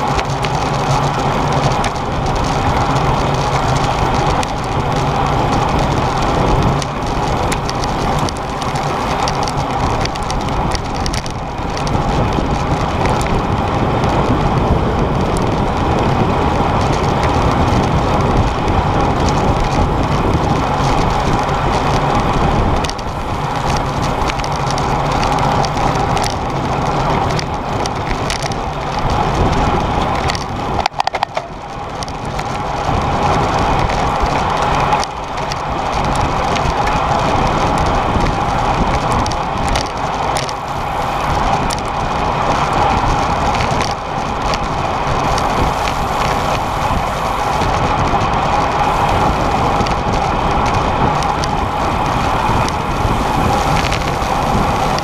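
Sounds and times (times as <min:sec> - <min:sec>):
road rattle crackling: 0:00.0 - 0:55.0
wind rush: 0:00.0 - 0:55.0.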